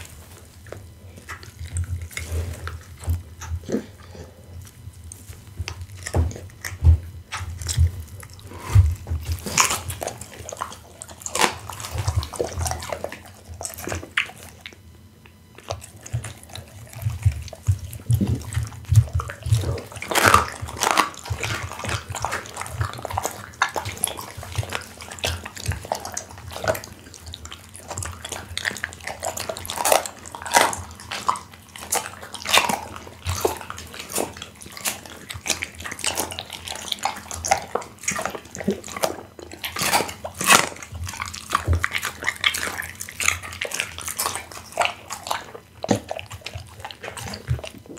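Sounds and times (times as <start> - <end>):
dog chewing and licking meat: 0.0 - 47.9.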